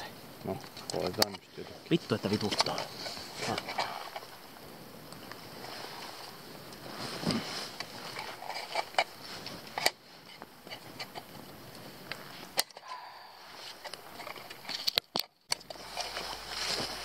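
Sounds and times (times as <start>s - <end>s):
dry twigs rustling: 0.4s - 12.6s, 13.4s - 17.0s.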